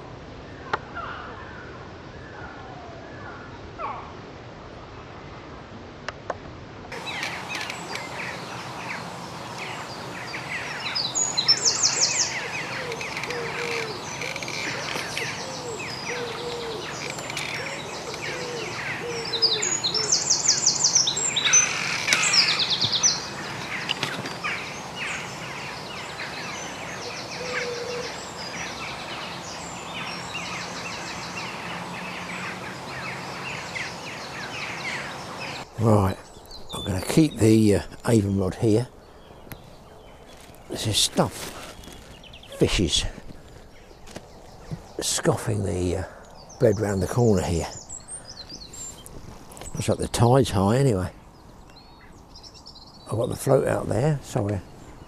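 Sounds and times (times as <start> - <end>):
songbirds chirping: 6.9 - 55.0.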